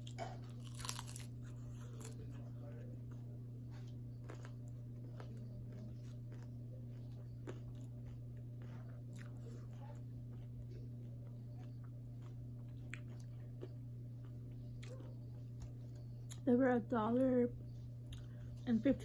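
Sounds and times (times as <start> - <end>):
mouth chewing crunchy taco: 0.0 - 2.5, 3.1 - 16.5
steady low hum: 0.0 - 19.0.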